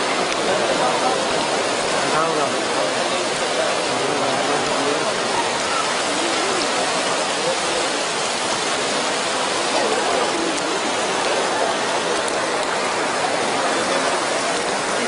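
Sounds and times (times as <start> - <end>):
faint voices: 0.0 - 15.0
heavy rain falling: 0.0 - 15.0.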